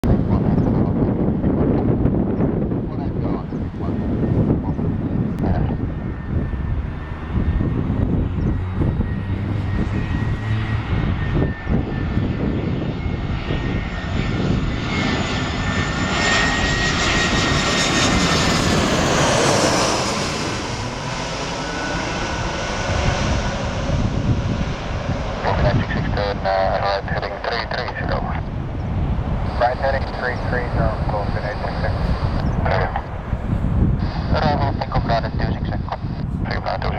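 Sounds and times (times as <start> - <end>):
wind rumbling on microphone: 0.0 - 36.9
jet engines whining: 0.1 - 36.9.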